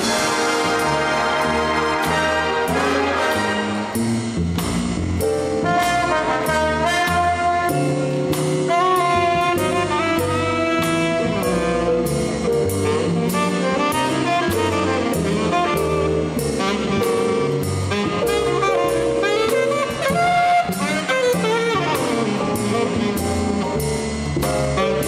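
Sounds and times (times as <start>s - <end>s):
saxophone: 0.0s - 4.3s, 5.4s - 25.0s
big band jazz: 0.0s - 25.0s
drum kit beat: 0.0s - 25.0s.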